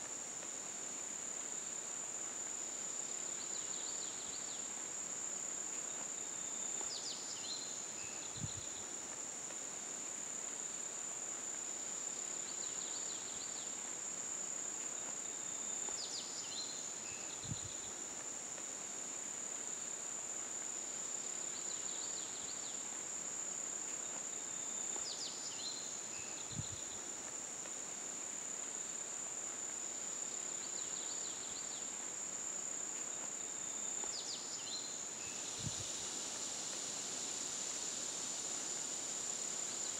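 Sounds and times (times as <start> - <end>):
crickets trilling: 0.1 - 39.9.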